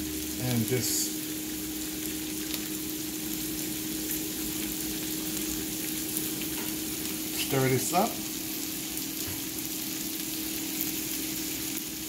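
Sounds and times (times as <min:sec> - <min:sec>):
sauce sizzling in frying pan: 0:00.0 - 0:12.0.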